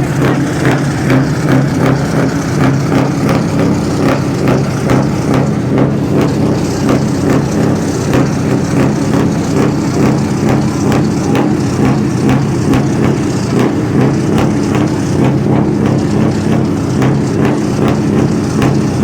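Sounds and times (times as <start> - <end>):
engine idling with ticking: 0.0 - 19.0.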